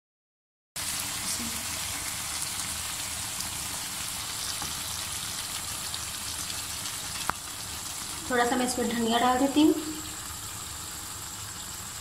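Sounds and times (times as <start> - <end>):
potatoes sizzling in a pan: 0.8 - 12.0.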